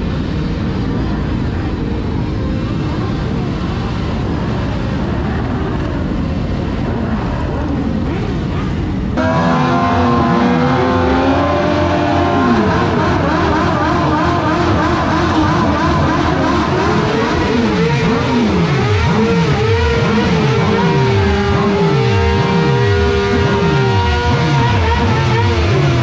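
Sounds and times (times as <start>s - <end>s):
motorcycle engines running: 0.0s - 26.0s
motorcycles revving: 0.0s - 26.0s.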